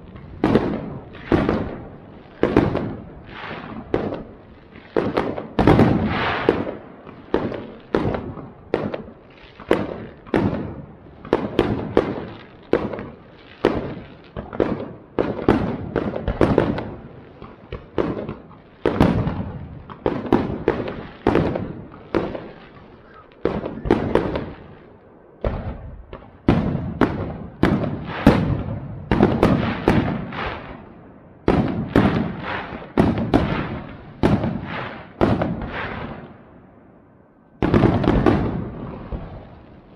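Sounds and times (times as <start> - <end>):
fireworks bursting with bangs: 0.0 - 36.9, 37.5 - 39.9.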